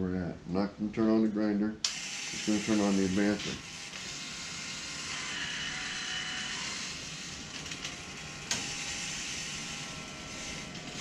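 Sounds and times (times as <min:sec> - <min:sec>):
mechanical whir: 0:01.9 - 0:11.0.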